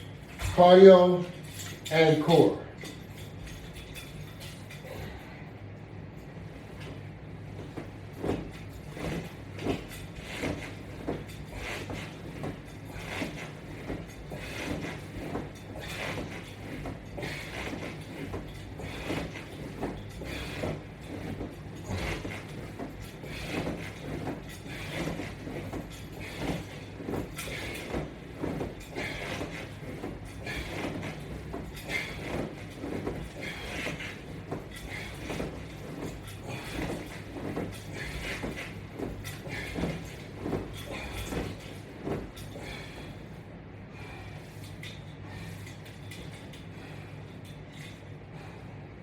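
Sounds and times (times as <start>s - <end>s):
steady low hum: 0.0s - 49.0s
person doing sit-ups: 3.1s - 49.0s.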